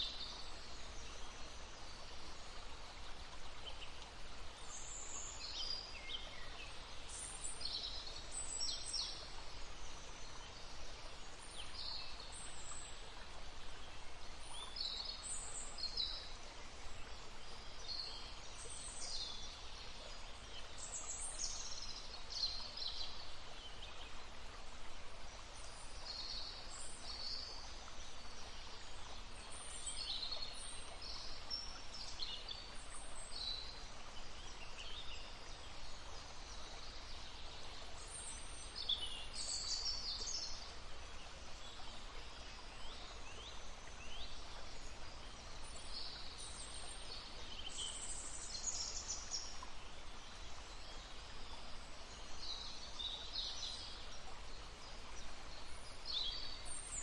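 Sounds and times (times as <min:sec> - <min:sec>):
stream murmuring: 0:00.0 - 0:57.0.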